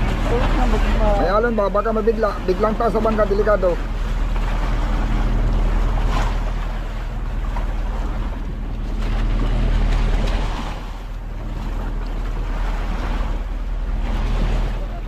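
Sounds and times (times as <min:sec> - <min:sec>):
boat engine drone: 0:00.0 - 0:15.0
water rushing and splashing: 0:00.0 - 0:15.0.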